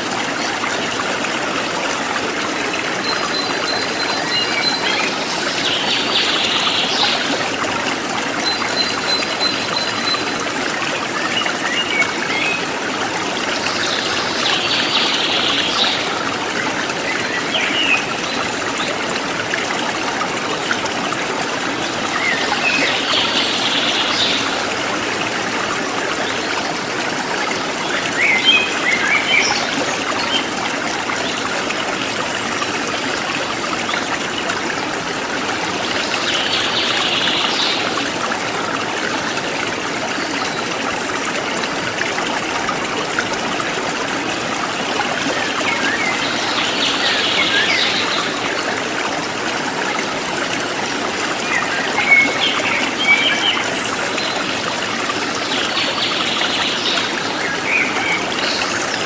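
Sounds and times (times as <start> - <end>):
stream running: 0.0 - 59.0.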